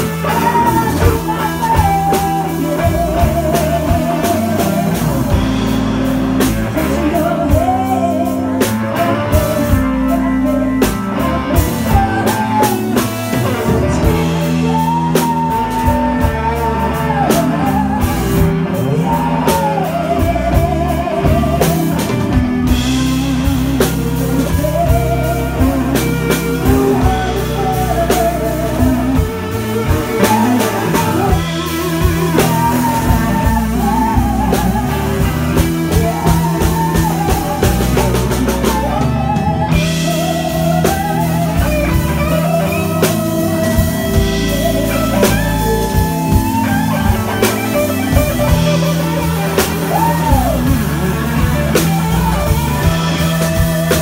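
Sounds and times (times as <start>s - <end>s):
drum kit: 0.0s - 54.0s
electric bass: 0.0s - 54.0s
electric guitar: 0.0s - 54.0s
woman singing with vibrato: 0.1s - 5.7s, 6.6s - 47.4s.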